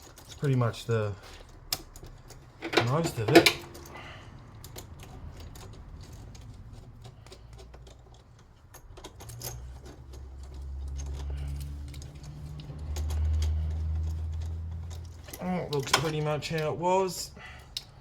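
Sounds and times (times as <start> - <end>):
metal tools clinking: 0.0 - 18.0.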